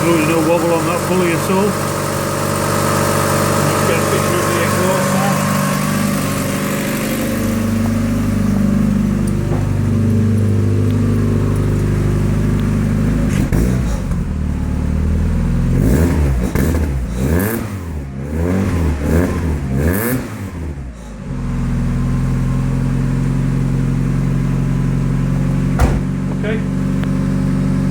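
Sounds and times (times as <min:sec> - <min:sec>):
car engine idling and revving: 0:00.0 - 0:27.9.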